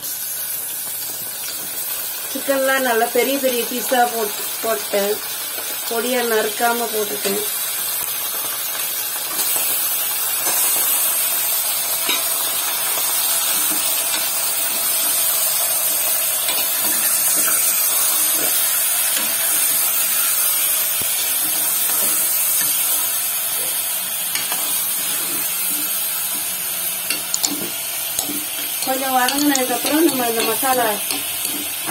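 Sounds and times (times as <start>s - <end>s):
meat sizzling in hot oil: 0.0s - 31.9s.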